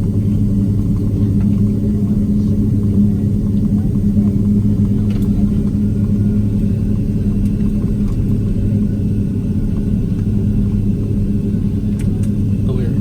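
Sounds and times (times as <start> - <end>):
constant low hum: 0.0 - 13.0
jet engines idling in cabin: 0.0 - 13.0.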